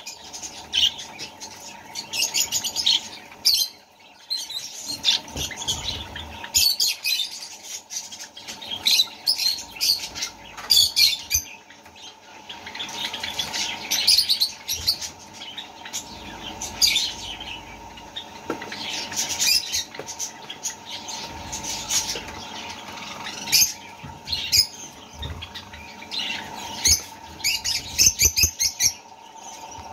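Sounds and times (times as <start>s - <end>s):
faint steady hum: 0.0s - 29.9s
nestling chicks chirping: 0.0s - 29.9s.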